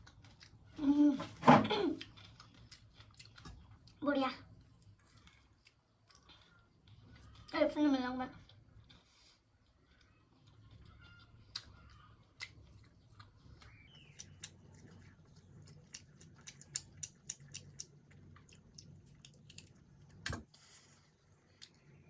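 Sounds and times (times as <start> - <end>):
chewing food: 0.0 - 1.0, 1.9 - 7.6, 8.3 - 22.0.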